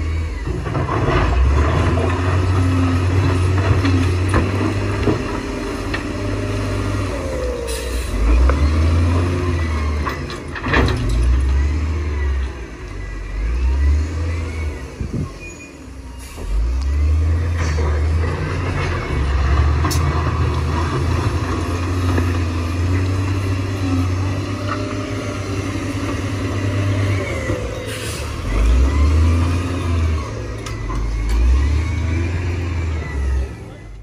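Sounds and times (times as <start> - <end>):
diesel machinery working: 0.0 - 34.0.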